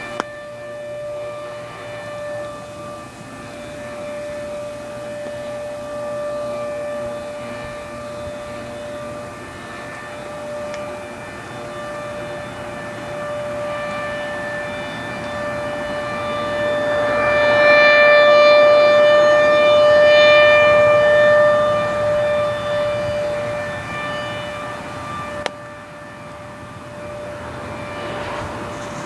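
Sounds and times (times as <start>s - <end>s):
rotating siren steady tone: 0.0s - 29.0s.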